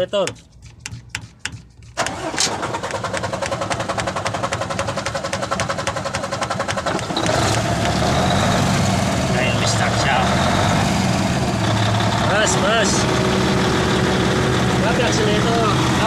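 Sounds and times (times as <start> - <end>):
diesel engine cranking on starter: 2.0 - 16.0
diesel engine running: 2.0 - 16.0.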